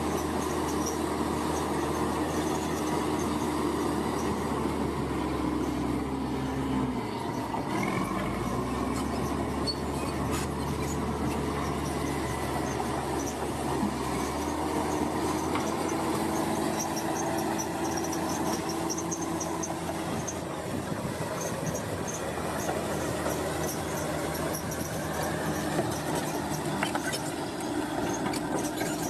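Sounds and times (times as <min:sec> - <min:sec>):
heavy diesel machinery engine: 0:00.0 - 0:29.0.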